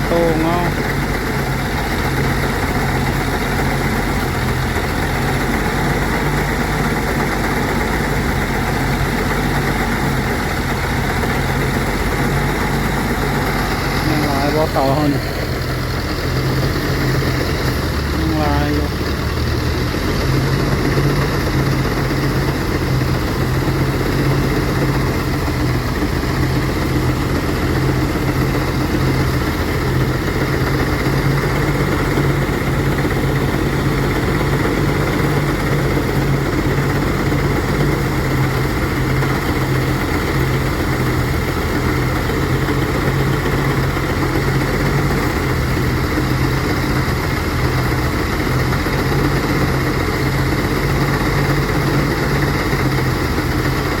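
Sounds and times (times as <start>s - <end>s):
threshing machine droning: 0.0s - 54.0s.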